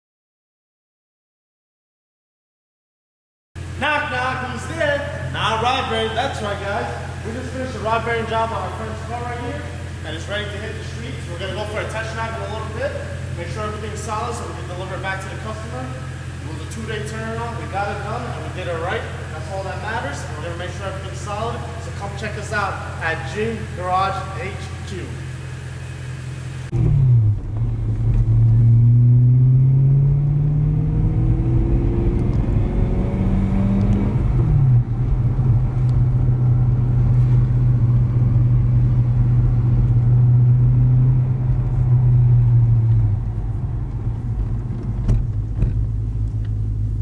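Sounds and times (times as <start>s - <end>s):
car engine accelerating: 3.6s - 47.0s.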